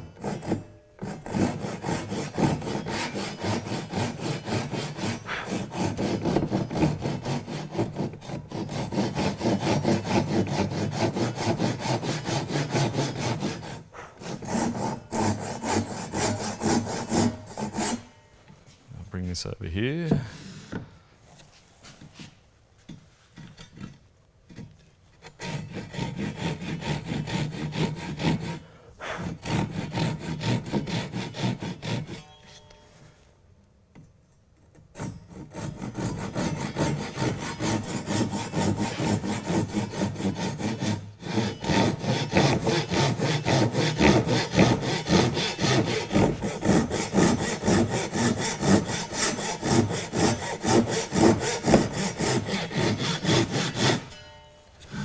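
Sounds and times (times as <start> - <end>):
hand saw cutting wood: 0.0 - 18.2, 23.3 - 32.7, 34.6 - 55.0.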